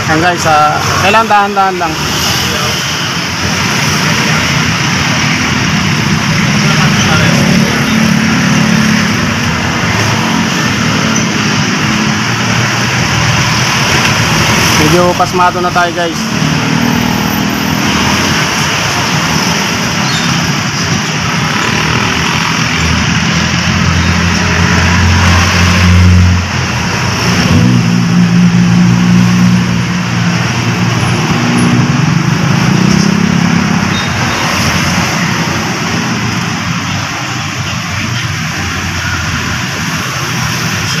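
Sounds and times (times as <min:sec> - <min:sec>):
road traffic noise: 0:00.0 - 0:41.0
vehicle engines running: 0:00.0 - 0:41.0.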